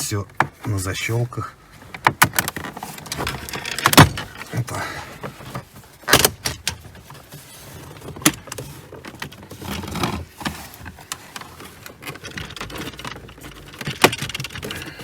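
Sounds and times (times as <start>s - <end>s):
plastic rubbing and knocking: 1.8s - 15.0s.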